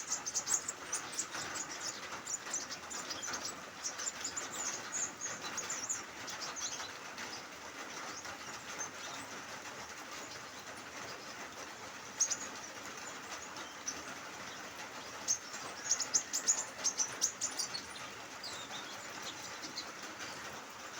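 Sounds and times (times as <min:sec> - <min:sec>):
small bird chirping: 0:00.0 - 0:09.3, 0:12.0 - 0:20.9.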